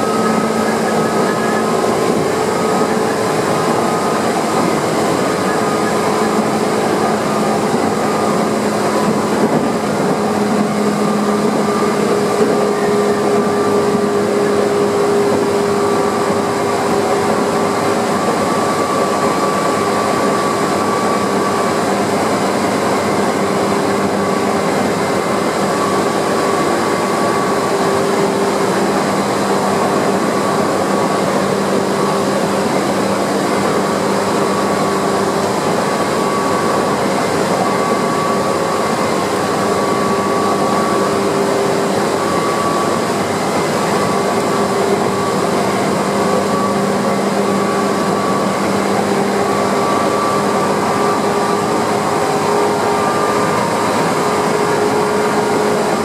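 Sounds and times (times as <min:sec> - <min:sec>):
electric train running noise: 0:00.0 - 0:56.0.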